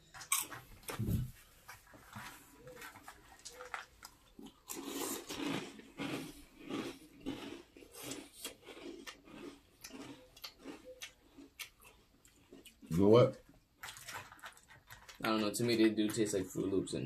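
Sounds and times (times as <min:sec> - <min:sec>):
chewing crunchy cereal: 0:00.0 - 0:01.0, 0:02.0 - 0:16.8.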